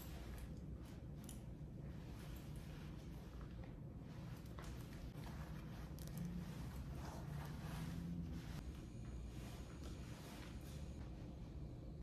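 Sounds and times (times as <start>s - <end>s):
clothing rustling: 0.0s - 11.4s
steady low hum: 0.0s - 12.0s.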